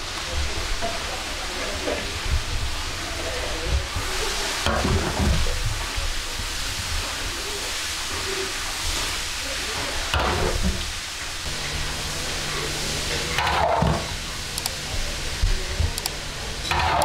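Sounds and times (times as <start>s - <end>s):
water boiling hard in a pot: 0.0s - 17.0s.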